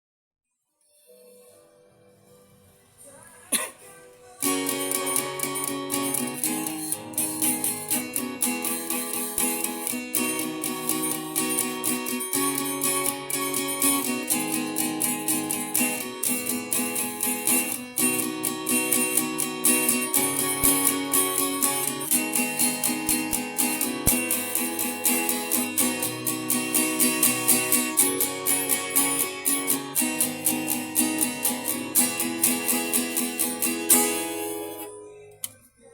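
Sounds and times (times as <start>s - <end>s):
strummed acoustic guitar: 3.5s - 35.9s.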